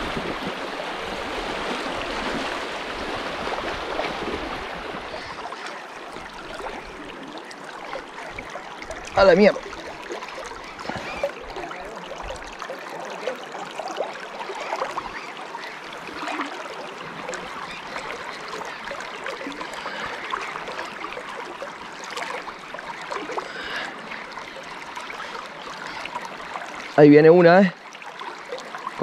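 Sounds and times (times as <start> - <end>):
river water running: 0.0 - 29.0.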